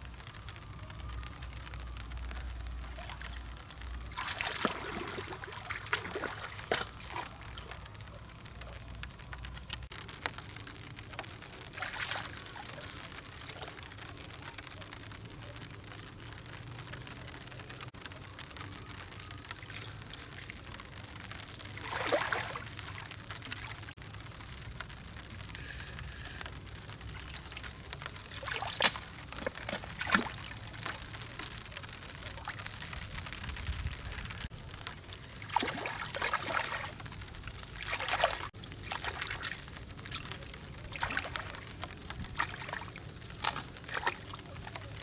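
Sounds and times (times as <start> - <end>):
water splashes: 0.0 - 45.0
water trickling and pouring: 0.2 - 15.2, 16.6 - 45.0.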